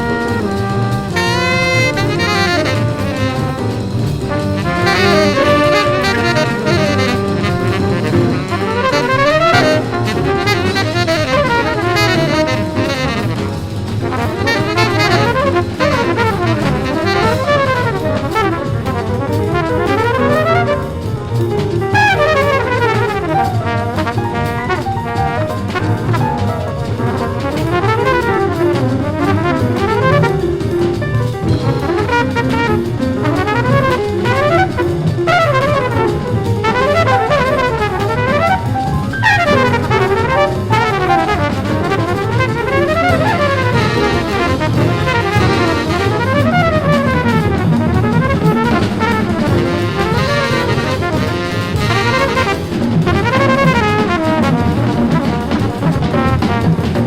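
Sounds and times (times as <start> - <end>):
drums piano and bass: 0.0 - 57.0
jazz trumpet runs: 0.0 - 57.0.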